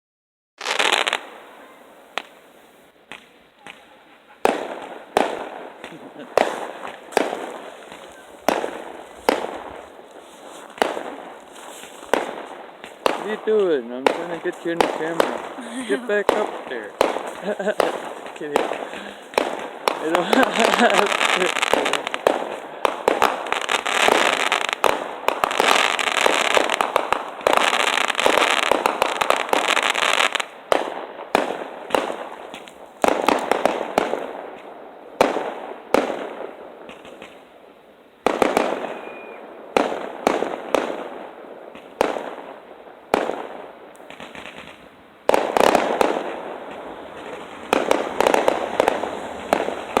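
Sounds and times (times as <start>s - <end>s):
fireworks exploding: 0.6s - 50.0s.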